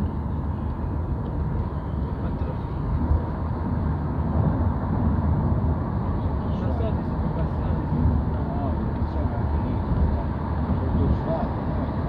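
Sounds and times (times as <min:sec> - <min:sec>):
car tyre and engine rumble: 0:00.0 - 0:12.0.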